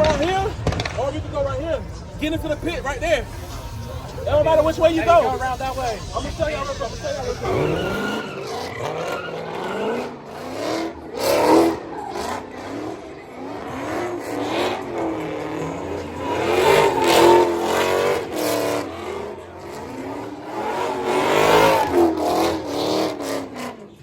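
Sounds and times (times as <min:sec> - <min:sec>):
car engines revving hard: 0:00.0 - 0:24.0
tires squealing: 0:00.0 - 0:24.0.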